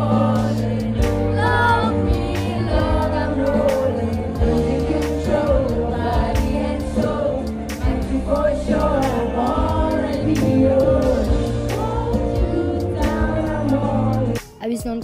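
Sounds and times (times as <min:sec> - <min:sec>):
crowd singing along: 0:00.0 - 0:14.5
live band music with drums: 0:00.0 - 0:15.0.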